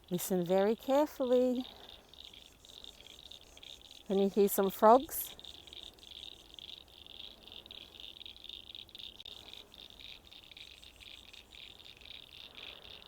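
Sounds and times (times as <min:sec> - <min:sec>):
frogs calling trill: 0:00.0 - 0:13.0.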